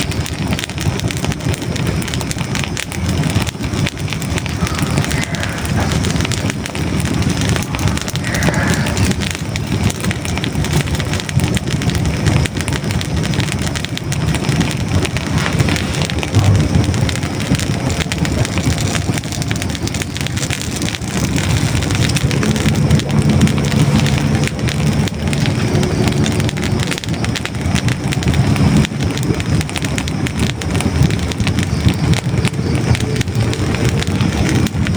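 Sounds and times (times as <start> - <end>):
logs crackling and popping: 0.0 - 34.9
low rumble of flames: 0.0 - 34.9.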